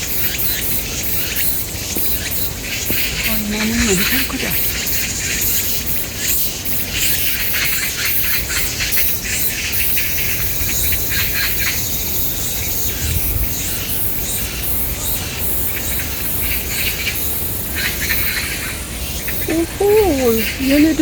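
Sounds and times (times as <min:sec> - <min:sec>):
high insect buzz: 0:00.0 - 0:21.0
birds chirping and squawking: 0:00.2 - 0:21.0.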